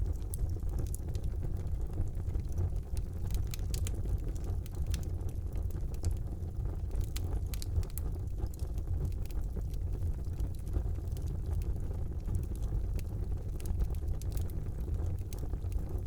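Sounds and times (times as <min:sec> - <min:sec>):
burning wood crackling and popping: 0:00.0 - 0:16.0
fire flames roaring: 0:00.0 - 0:16.0.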